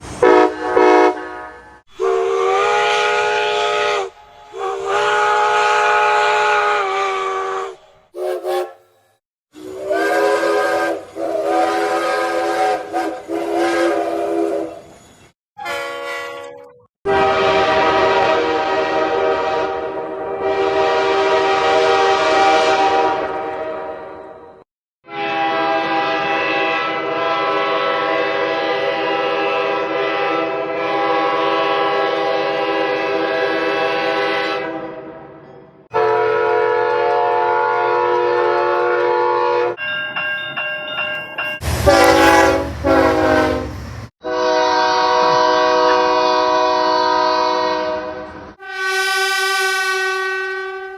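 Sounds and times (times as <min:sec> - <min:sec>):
train horn blasts: 0:00.2 - 0:14.9, 0:15.6 - 0:39.8, 0:41.6 - 0:50.9.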